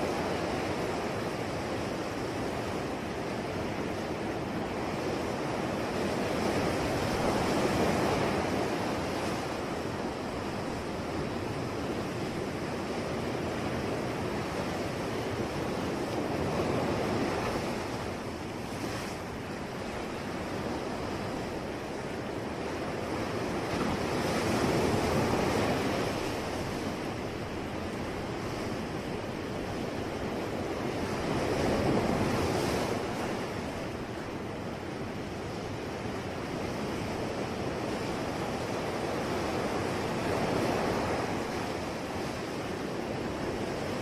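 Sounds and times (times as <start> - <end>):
sea waves breaking ashore: 0.0 - 44.0.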